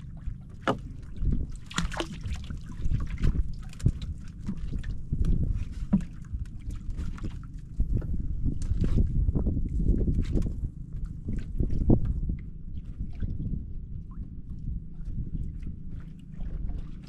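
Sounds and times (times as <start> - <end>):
water sloshing against boat: 0.0 - 17.0
wind buffeting microphone: 0.0 - 17.0.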